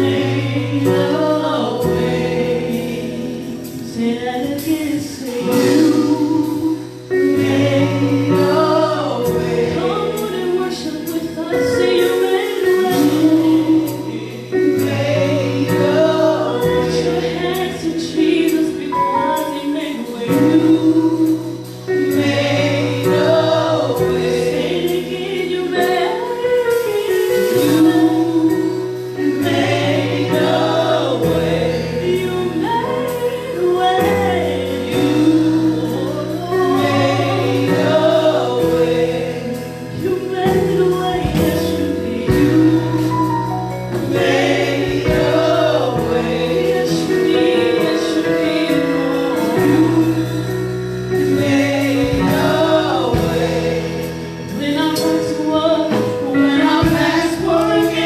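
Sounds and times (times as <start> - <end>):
band playing: 0.0 - 58.0
choir and congregation singing: 0.0 - 58.0.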